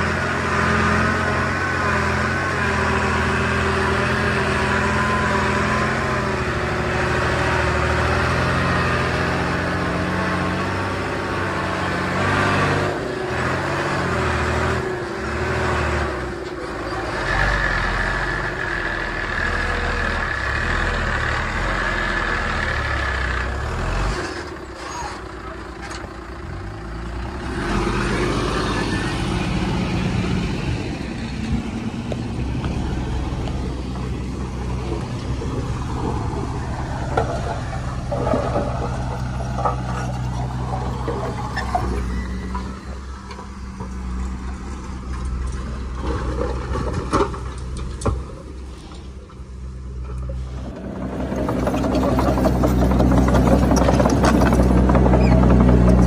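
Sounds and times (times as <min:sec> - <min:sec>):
diesel engines of heavy machinery: 0:00.0 - 0:56.0.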